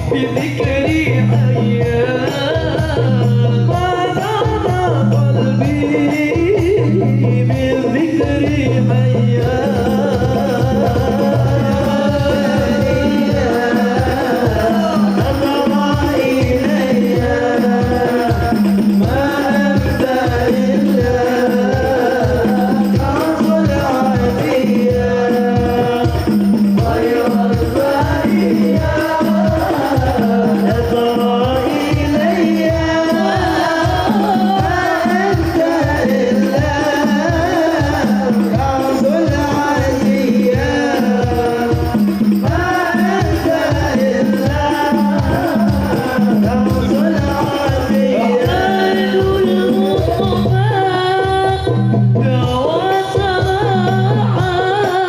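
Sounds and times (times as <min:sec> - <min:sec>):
fast hand-drum beat: 0:00.0 - 0:55.0.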